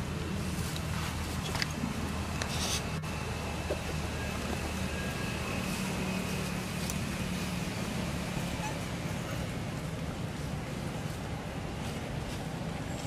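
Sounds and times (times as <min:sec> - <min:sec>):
continuous low hum: 0:00.0 - 0:13.0.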